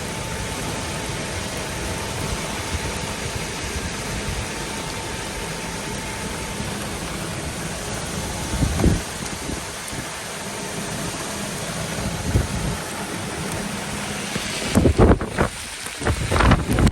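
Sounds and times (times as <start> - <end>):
golf cart driving: 0.0 - 16.9
rain hissing: 0.0 - 16.9.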